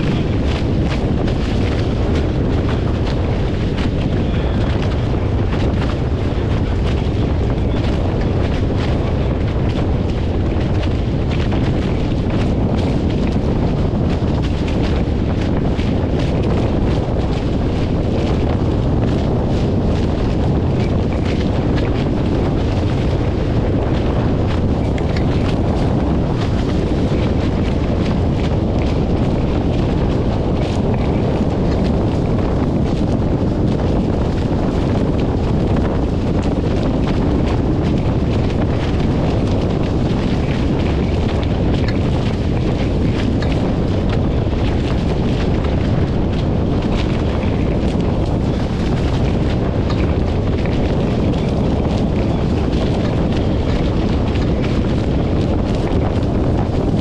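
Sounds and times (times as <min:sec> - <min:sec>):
water rushing and splashing: 0:00.0 - 0:57.0
wind buffeting microphone: 0:00.0 - 0:57.0.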